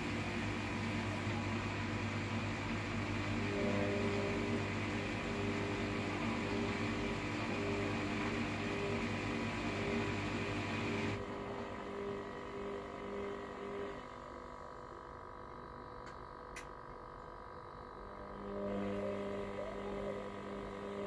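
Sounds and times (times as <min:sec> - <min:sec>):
washer-dryer humming: 0:00.0 - 0:15.6, 0:16.6 - 0:21.0.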